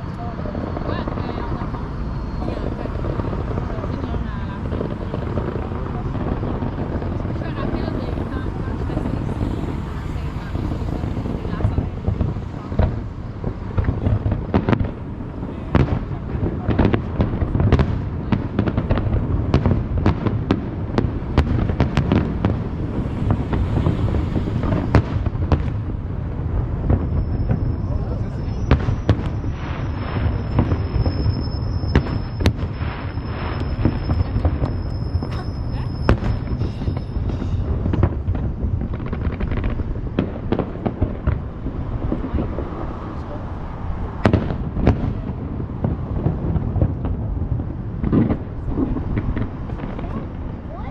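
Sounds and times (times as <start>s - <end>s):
firework shells bursting: 0.0s - 43.2s
low rumble: 0.0s - 50.8s
firework crackle: 0.0s - 50.9s.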